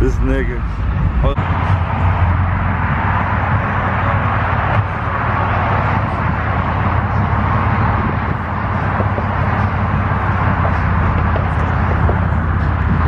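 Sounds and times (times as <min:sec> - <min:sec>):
parking lot noise: 0:00.0 - 0:13.0
truck engine idling: 0:00.0 - 0:13.0.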